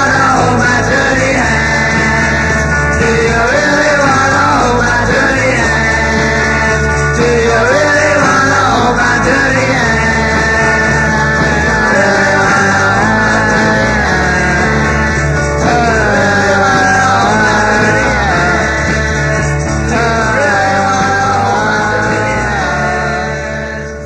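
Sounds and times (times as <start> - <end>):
rock song with singing: 0.0 - 24.0.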